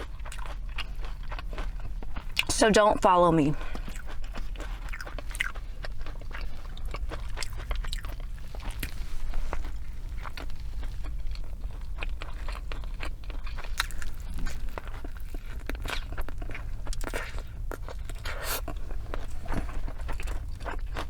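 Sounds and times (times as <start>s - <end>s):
chewing and crunching food: 0.0s - 21.0s.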